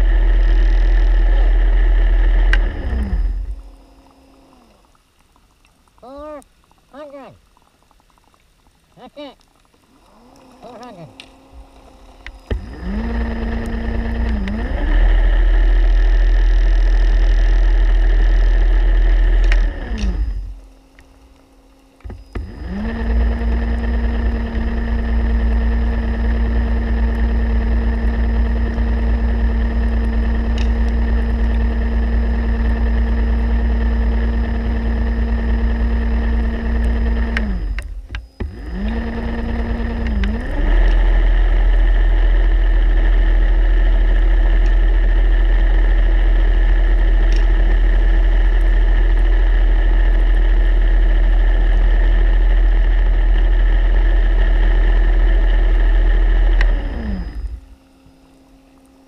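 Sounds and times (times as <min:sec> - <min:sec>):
electric motor whining underwater: 0:00.0 - 0:07.7, 0:08.3 - 0:59.0.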